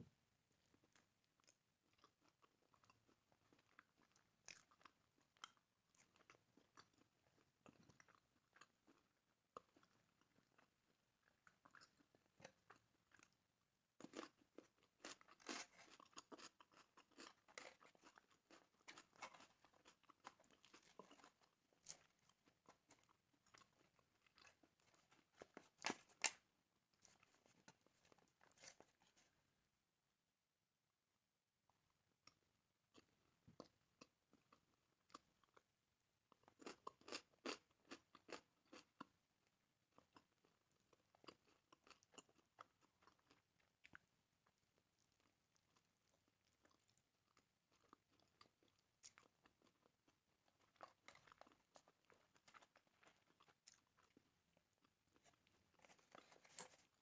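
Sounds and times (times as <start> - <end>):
person chewing food: 0.5 - 29.4, 31.7 - 57.0.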